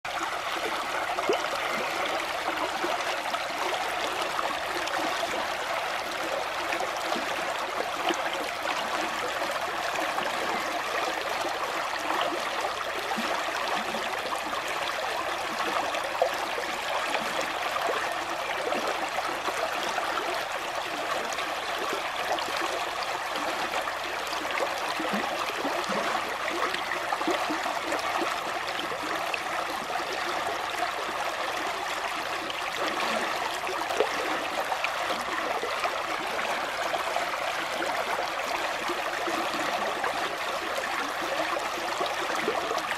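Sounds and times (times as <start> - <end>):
creek water over rocks: 0.0 - 42.9.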